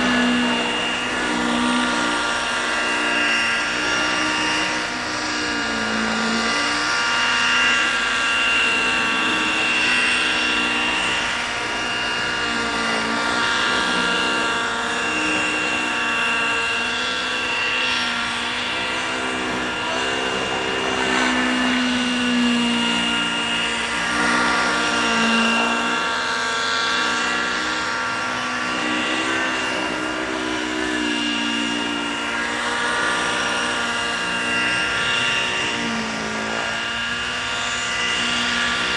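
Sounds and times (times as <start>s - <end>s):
model helicopter engine whine: 0.0s - 38.9s.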